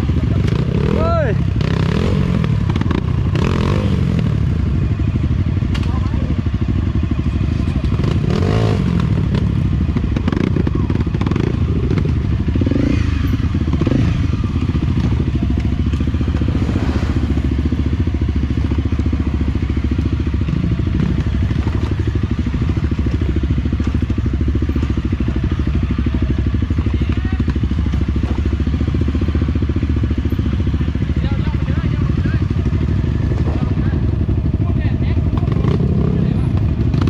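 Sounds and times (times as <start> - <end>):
motorcycle engine running: 0.0 - 37.0
motorcycle knocking and clattering: 2.6 - 16.7, 17.4 - 37.0.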